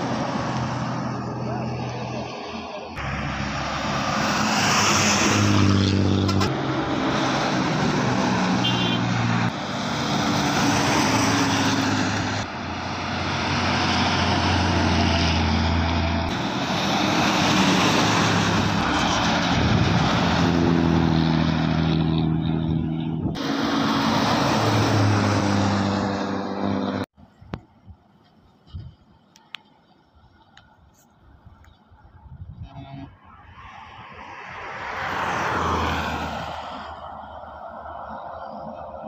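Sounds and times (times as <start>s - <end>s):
bus engine drone: 0.0s - 39.0s
road and wind noise: 0.0s - 39.0s.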